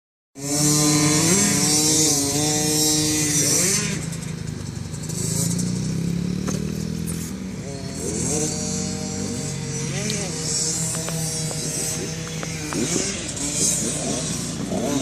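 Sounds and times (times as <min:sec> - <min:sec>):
pit bike engines revving: 0:00.4 - 0:15.0.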